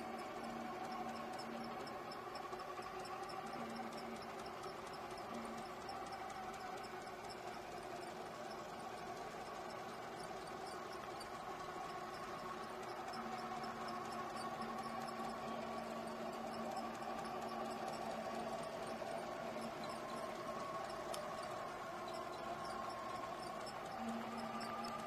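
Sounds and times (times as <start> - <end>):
faint high ticks: 0.0 - 25.0
lower steady motor tone: 0.0 - 25.0
small electric motors humming: 0.0 - 25.0.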